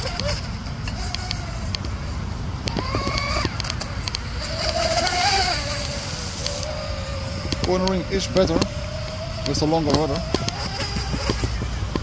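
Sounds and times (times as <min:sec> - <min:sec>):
rc speedboat motors whining: 0:00.0 - 0:12.0
wind rumble on microphone: 0:00.0 - 0:12.0.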